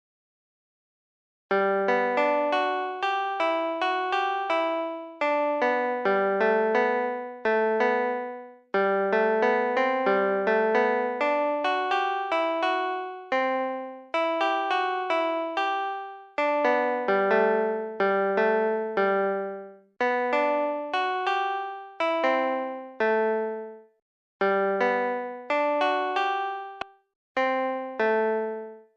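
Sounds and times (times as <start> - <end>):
electric piano melody: 1.5 - 23.8, 24.4 - 28.9.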